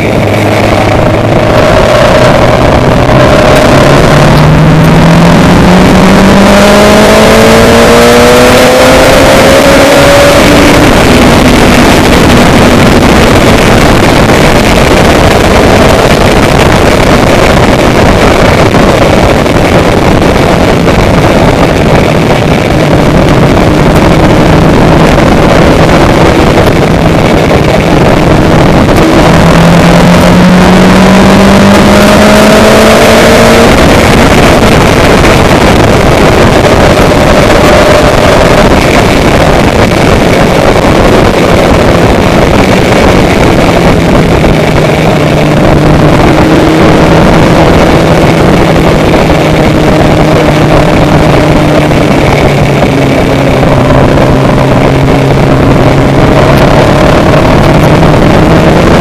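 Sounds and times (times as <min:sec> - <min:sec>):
road rush: 0:00.0 - 0:59.0
vehicle engine: 0:00.0 - 0:59.0
wind: 0:00.0 - 0:59.0.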